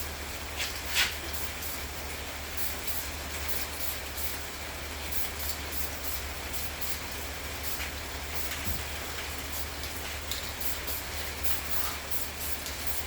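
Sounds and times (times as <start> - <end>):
spray can hissing: 0.6 - 1.9, 2.6 - 4.4, 5.1 - 13.0.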